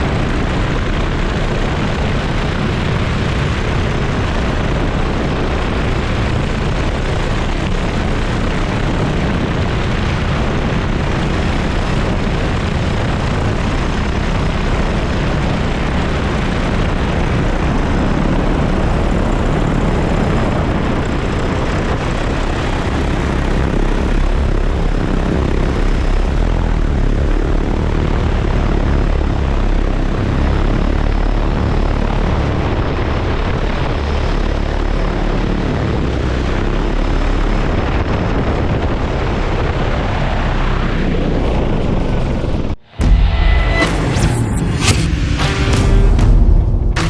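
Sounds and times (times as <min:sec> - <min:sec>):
drone propellers droning: 0:00.0 - 0:38.2, 0:39.4 - 0:47.0
heavy low rumble: 0:00.0 - 0:47.0.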